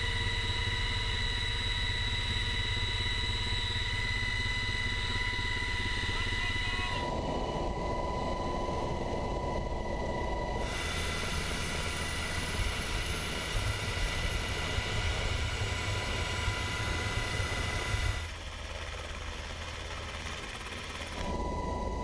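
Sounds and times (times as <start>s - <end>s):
helicopter rotor rumble: 0.0s - 22.0s
helicopter turbine whine: 0.0s - 22.0s.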